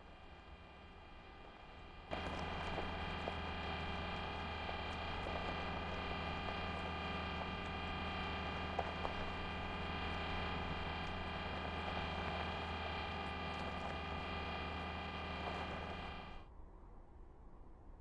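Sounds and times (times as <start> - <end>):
droning hum of held tones: 0.0 - 17.4.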